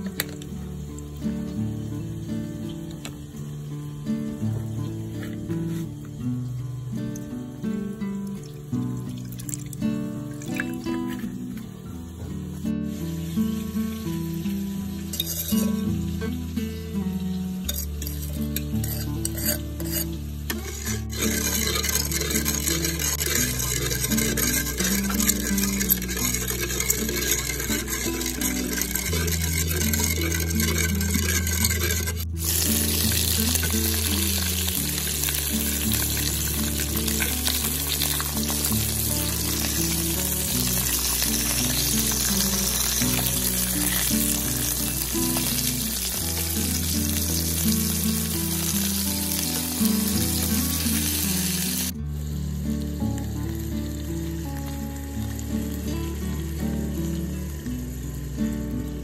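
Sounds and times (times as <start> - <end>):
meat sizzling in a pan: 8.4 - 59.0
background music: 9.0 - 59.0.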